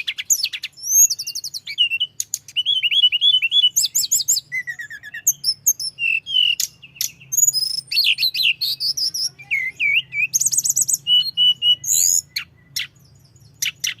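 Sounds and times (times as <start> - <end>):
bird singing high chirps and trills: 0.0 - 14.0.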